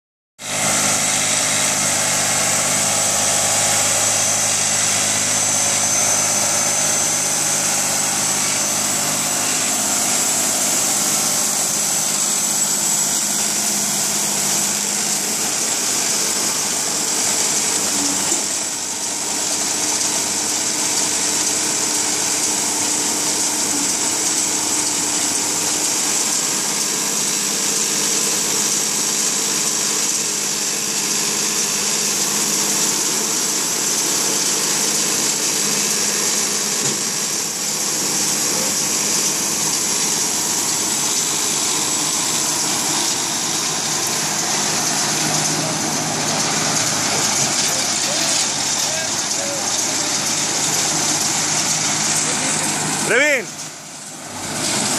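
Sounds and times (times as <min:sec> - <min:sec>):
tractor diesel engine running: 0:00.4 - 0:54.9
baler mechanical whirr: 0:00.5 - 0:54.9.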